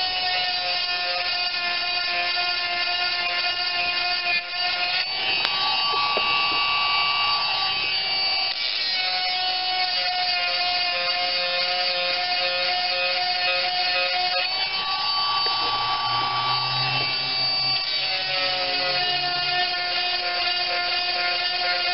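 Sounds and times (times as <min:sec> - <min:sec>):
chainsaw sharpener grinding: 0:00.0 - 0:21.9.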